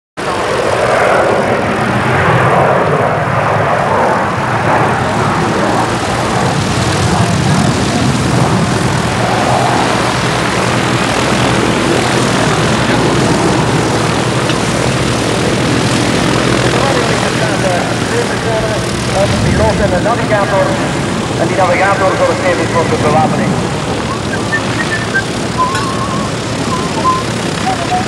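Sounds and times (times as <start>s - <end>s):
propeller plane engine running: 0.2s - 28.0s.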